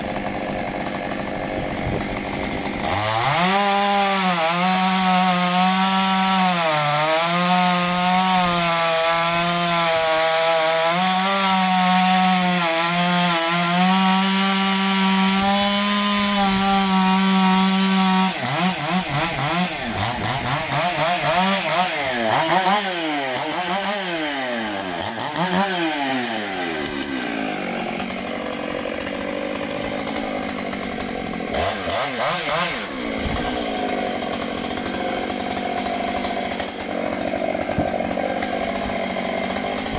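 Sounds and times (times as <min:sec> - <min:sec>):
chainsaw cutting through log: 0:00.0 - 0:39.9
chainsaw revving: 0:00.0 - 0:39.9.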